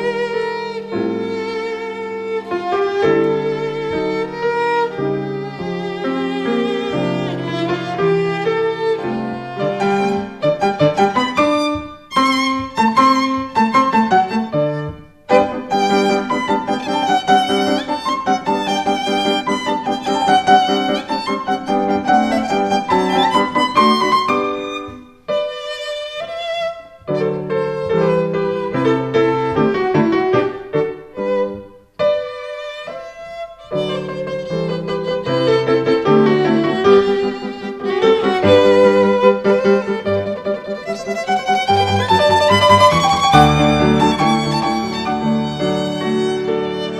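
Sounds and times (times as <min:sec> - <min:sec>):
violin melody with vibrato: 0:00.0 - 0:46.9.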